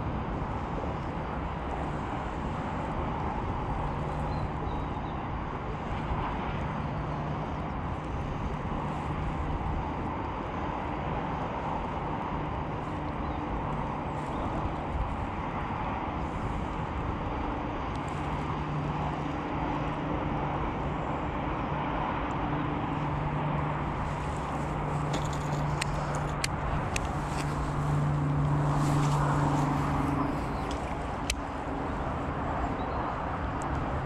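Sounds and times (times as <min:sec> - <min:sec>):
distant engine hum: 0:00.0 - 0:34.0
wind: 0:00.0 - 0:34.0.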